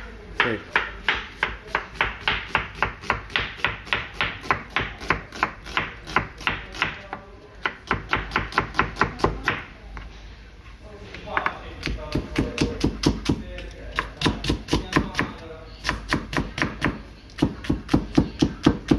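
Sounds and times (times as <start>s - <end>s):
knife chopping on cutting board: 0.7s - 9.6s, 11.8s - 18.9s.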